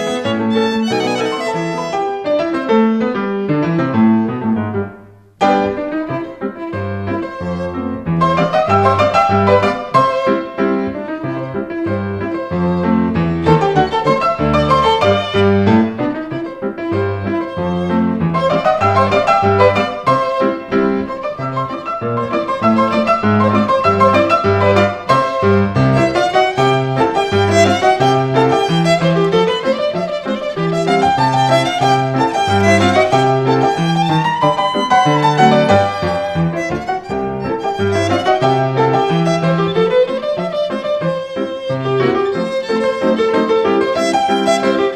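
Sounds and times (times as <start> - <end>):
violin melody: 0.0 - 4.6, 5.4 - 44.9
piano playing: 0.0 - 44.9.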